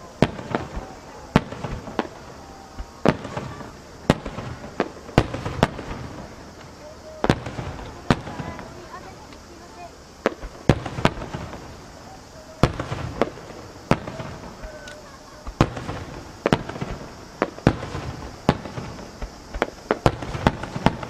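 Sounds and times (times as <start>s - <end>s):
crackling hiss: 0.0s - 21.0s
firework shells booming: 0.0s - 21.0s.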